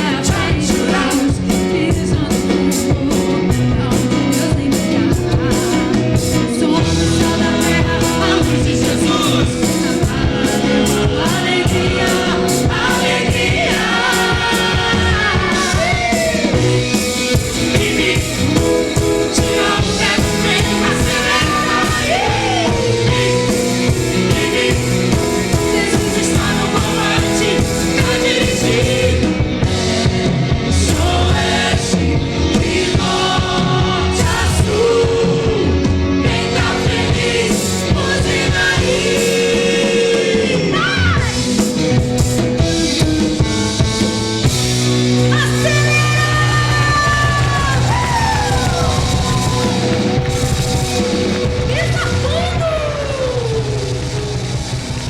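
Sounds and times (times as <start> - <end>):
pop-rock song with singing: 0.0 - 55.0.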